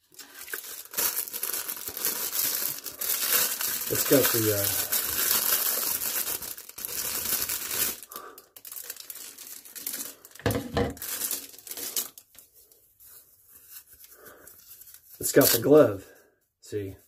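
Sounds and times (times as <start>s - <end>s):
plastic bag crinkling and tearing: 0.0s - 12.5s, 14.5s - 15.8s.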